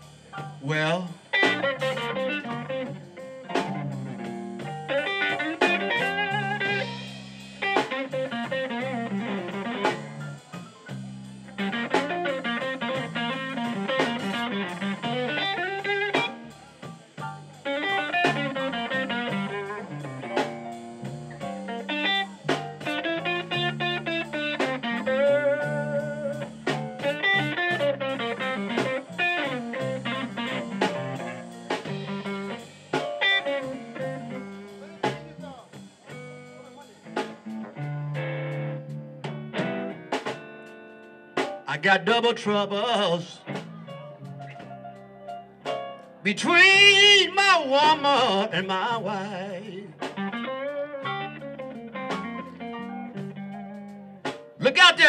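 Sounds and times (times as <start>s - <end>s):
drum kit: 0.0s - 55.0s
electric guitar playing blues: 0.0s - 55.0s.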